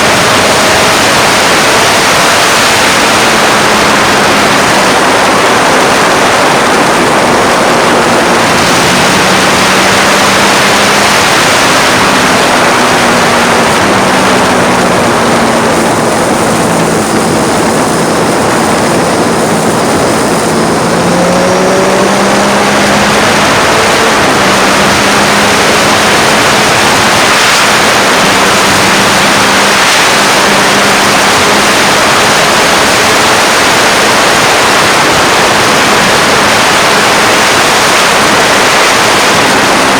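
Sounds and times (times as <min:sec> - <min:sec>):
faint motorcycle engine: 0:00.0 - 0:38.4
wind noise on microphone: 0:00.0 - 0:39.9.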